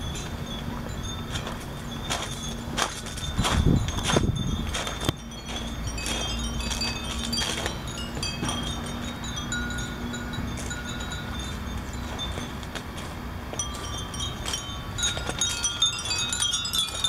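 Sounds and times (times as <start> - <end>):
glass wind bells tinkling: 0.0 - 17.0.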